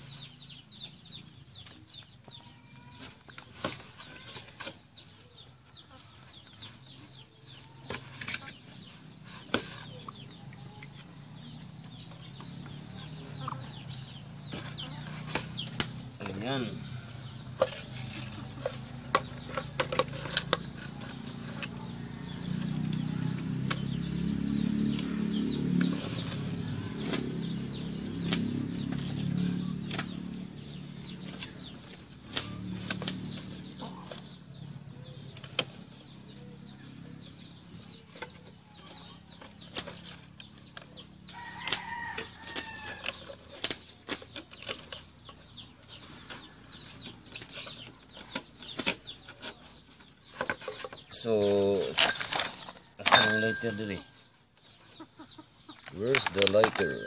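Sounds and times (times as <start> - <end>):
chickens clucking: 4.8 - 24.0, 24.9 - 57.0.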